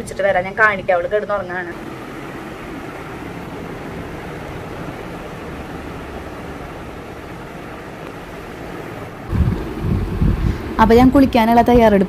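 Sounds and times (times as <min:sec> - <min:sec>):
rushing noise with low rumble: 0:01.8 - 0:12.0.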